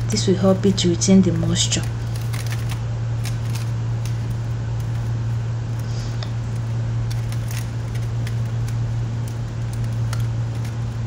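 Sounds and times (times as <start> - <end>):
foil crinkling and clicking: 0.0 - 11.0
steady low hum: 0.0 - 11.0.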